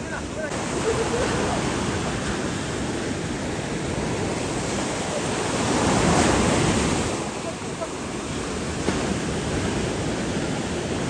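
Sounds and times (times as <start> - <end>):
sea waves washing in: 0.0 - 11.0
wind on microphone: 0.0 - 11.0.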